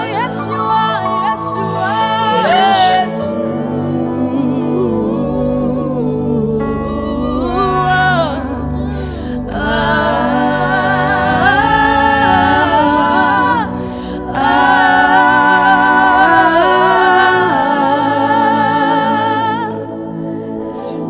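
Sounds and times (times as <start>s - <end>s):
person singing long gliding notes: 0.0s - 21.0s
sustained instrumental backing: 0.0s - 21.0s.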